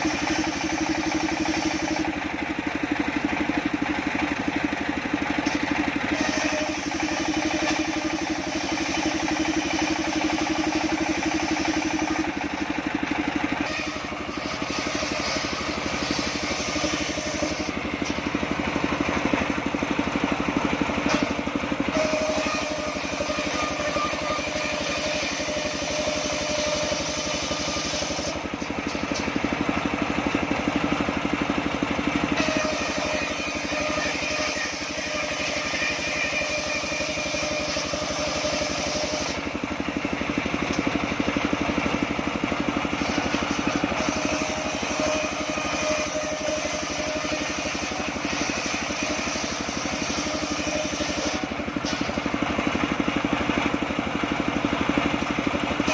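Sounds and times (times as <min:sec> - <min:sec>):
saw blade whine: 0:00.0 - 0:55.9
sawmill engine hum: 0:00.0 - 0:55.9.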